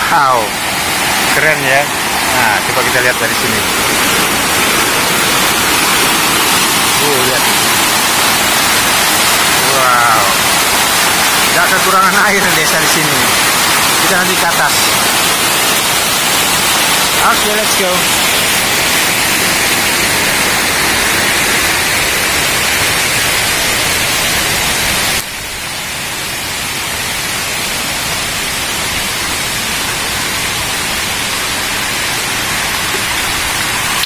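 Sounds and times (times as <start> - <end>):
fast stream rushing: 0.0 - 34.0.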